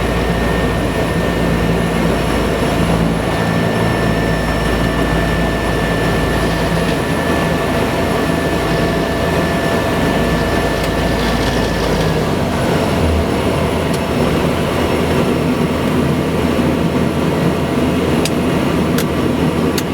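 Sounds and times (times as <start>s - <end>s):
high steady whine: 0.0s - 19.9s
turboprop engine running: 0.0s - 19.9s.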